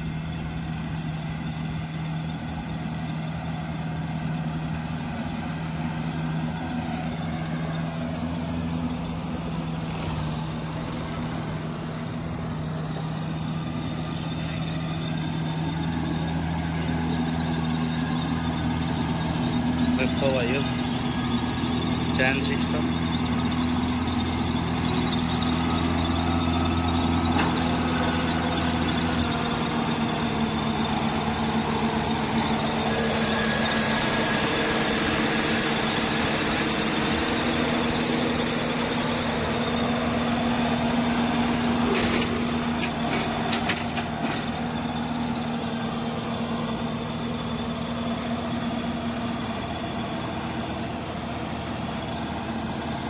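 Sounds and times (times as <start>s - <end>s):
combine harvester engine drone: 0.0s - 53.0s.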